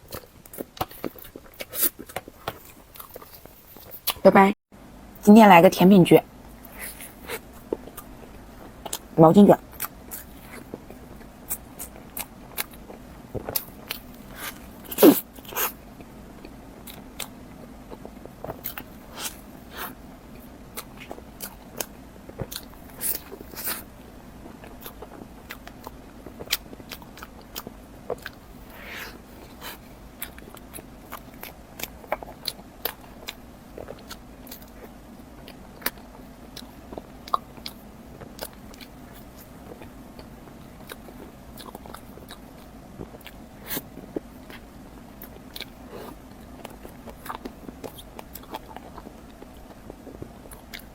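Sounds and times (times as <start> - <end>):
chewing and biting mouth sounds: 0.0 - 4.2, 6.6 - 50.9.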